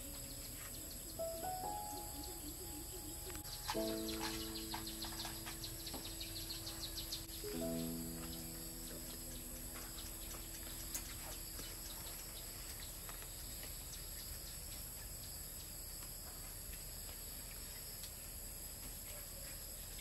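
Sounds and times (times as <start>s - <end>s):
insects chirring: 0.0s - 20.0s
leaf clicking and rustling: 3.1s - 20.0s.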